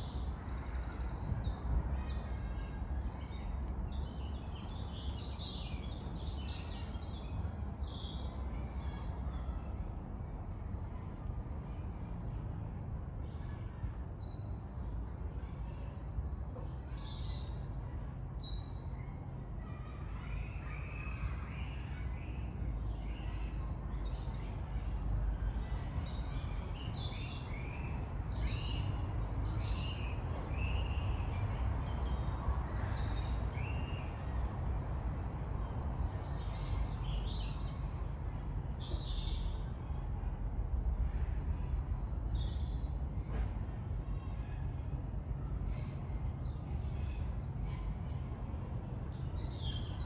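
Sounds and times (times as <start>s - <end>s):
low rumble of traffic: 0.0s - 50.0s.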